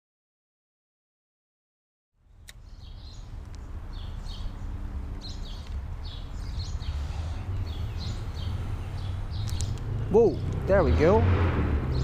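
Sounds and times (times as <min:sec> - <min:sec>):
birds chirping: 0:02.2 - 0:12.0.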